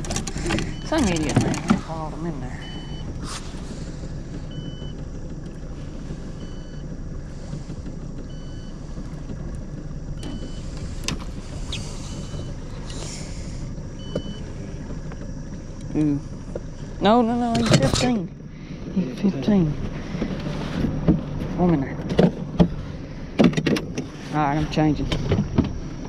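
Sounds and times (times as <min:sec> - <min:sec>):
boat motor low rumble: 0:00.0 - 0:26.0.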